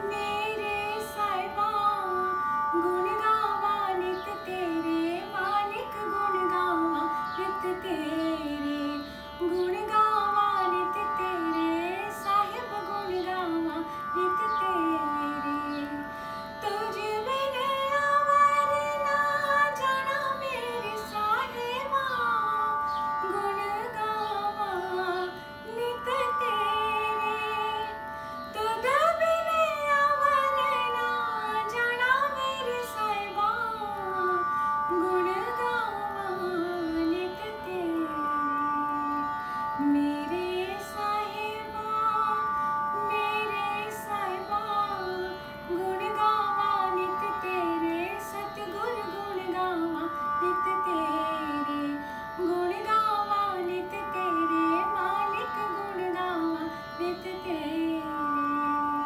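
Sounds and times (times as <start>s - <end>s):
woman singing devotional song: 0.0s - 59.0s.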